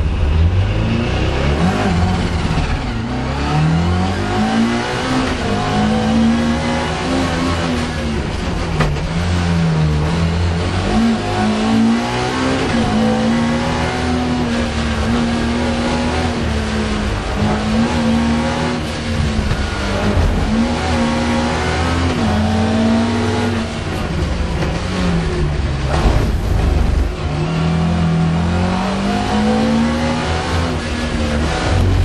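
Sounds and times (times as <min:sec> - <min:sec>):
rally car engine revving hard: 0:00.0 - 0:32.0.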